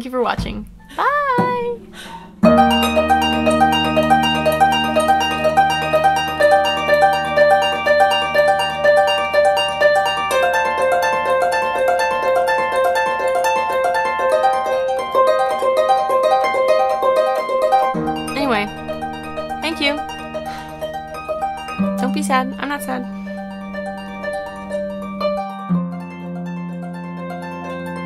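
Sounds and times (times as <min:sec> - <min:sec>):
harp music: 0:00.6 - 0:28.0.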